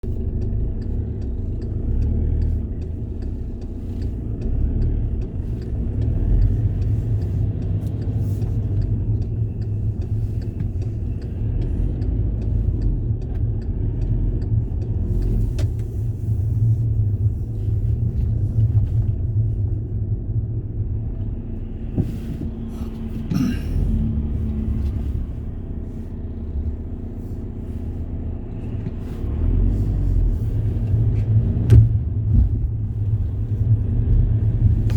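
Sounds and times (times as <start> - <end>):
road vehicle rumble: 0.0 - 34.9.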